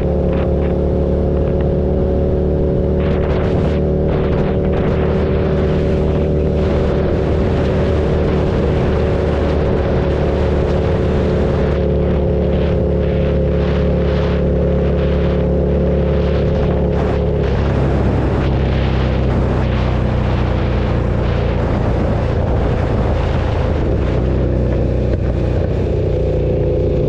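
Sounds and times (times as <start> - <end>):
motorcycle engine running: 0.0 - 27.0
wind noise on microphone: 0.0 - 27.0.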